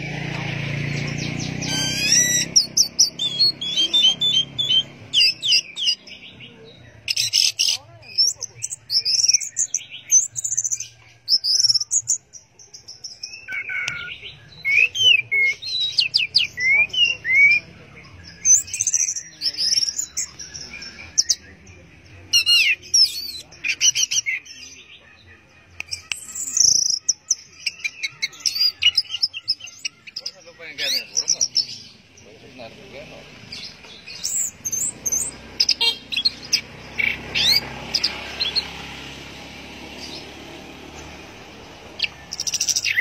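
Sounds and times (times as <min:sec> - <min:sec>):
thrush singing: 0:00.0 - 0:43.0.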